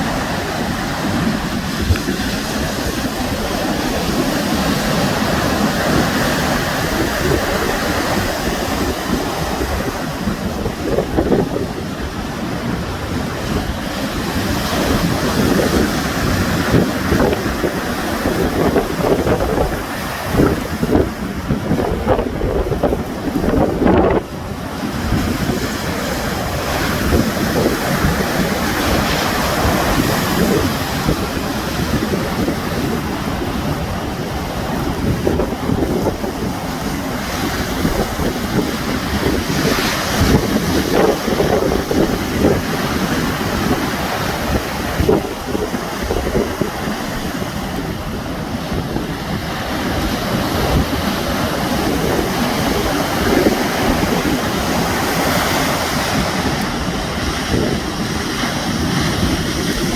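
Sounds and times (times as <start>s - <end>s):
sea waves breaking on shore: 0.0s - 59.9s
wind buffeting microphone: 0.0s - 59.9s.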